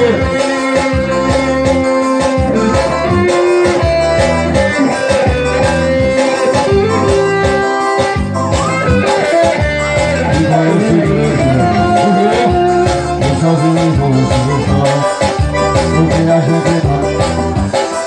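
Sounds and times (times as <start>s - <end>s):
held-note melody line: 0.0s - 17.6s
live band dance beat: 0.0s - 18.0s.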